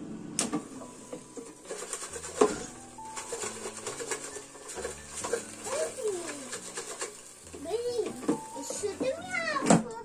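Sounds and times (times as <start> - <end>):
soft background music: 0.2 - 10.0.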